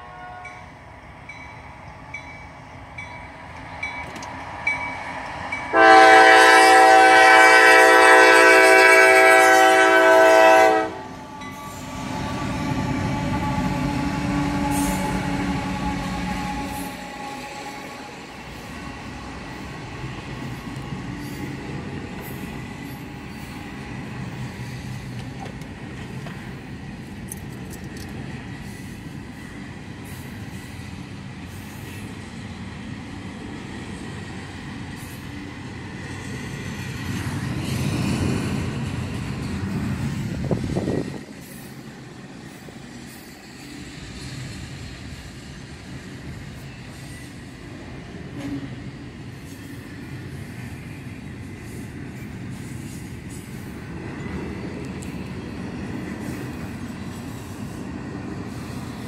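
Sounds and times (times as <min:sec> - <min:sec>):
freight train rumbling on rails: 0:00.0 - 0:59.0.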